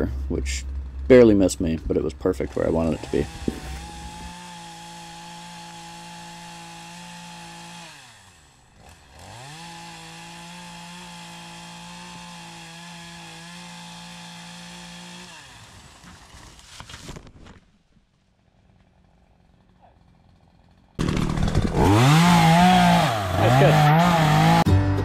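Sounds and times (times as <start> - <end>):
chainsaw running: 2.4 - 16.8, 18.4 - 24.7.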